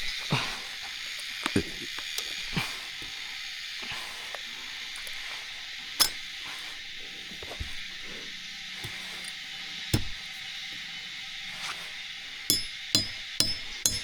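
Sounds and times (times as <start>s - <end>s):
forest ambience hiss: 0.0s - 14.0s.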